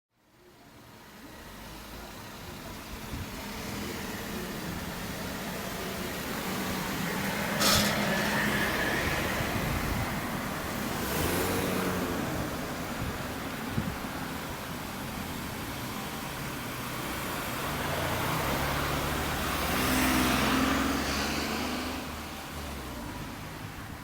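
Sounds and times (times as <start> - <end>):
road traffic passing: 0.3 - 24.0.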